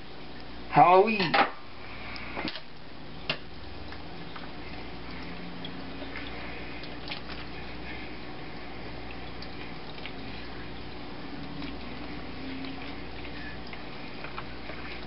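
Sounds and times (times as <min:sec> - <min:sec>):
wet dripping sounds: 0:00.0 - 0:15.0.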